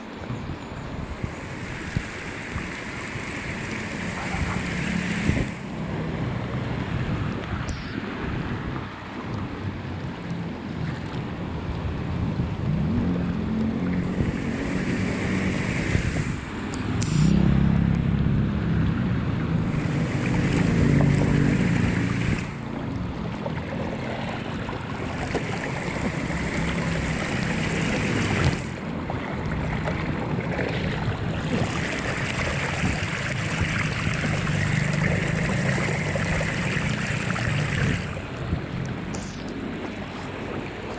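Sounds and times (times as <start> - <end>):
water rushing into a drain: 1.0 - 39.1.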